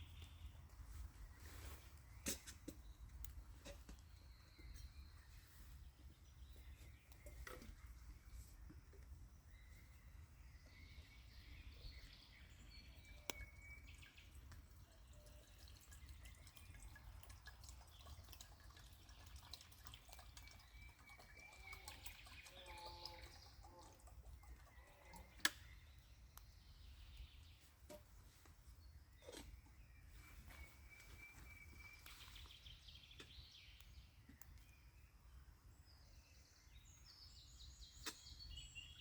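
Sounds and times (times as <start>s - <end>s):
small ticks and drips: 0.0s - 28.1s, 31.0s - 35.4s.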